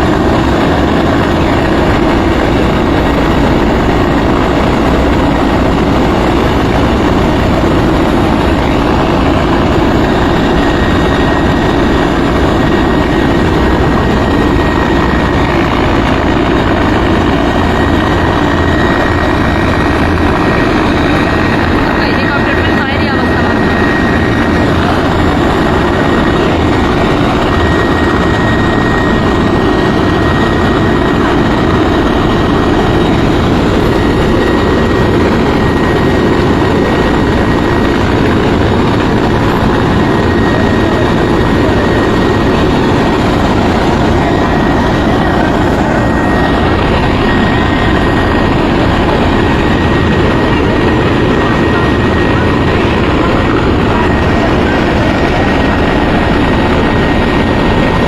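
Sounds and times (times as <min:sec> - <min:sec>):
helicopter rotor noise: 0:00.0 - 0:58.0.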